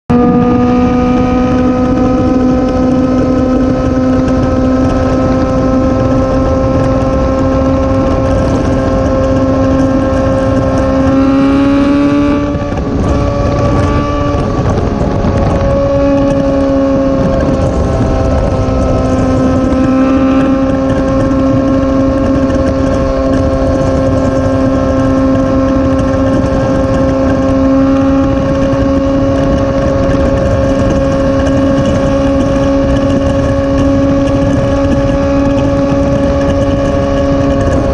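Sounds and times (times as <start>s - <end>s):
low wind rush: 0.0s - 37.9s
motorcycle engine running: 0.0s - 37.9s.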